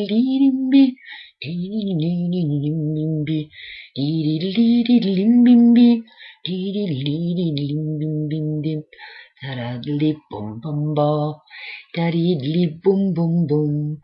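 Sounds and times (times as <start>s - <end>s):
person singing wordless tune: 0.0s - 14.0s.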